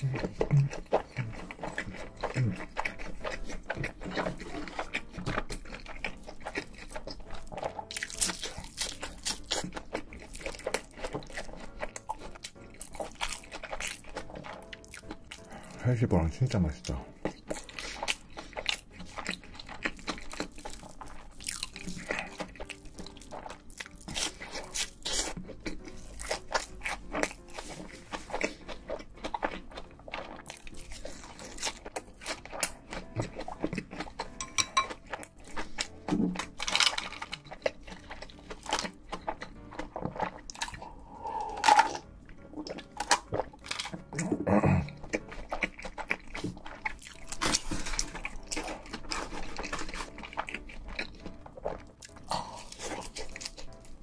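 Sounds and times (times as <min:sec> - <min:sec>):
wet mouth sounds: 0:00.0 - 0:15.7, 0:17.0 - 0:36.7, 0:37.3 - 0:54.0
chewing crispy food: 0:00.0 - 0:54.0.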